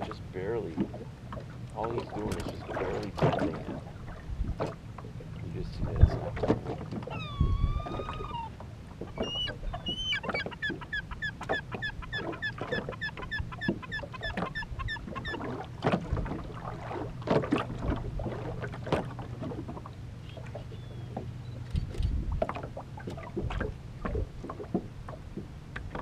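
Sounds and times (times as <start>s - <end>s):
low steady hum: 0.0s - 26.0s
waves slapping against metal hull: 0.0s - 26.0s.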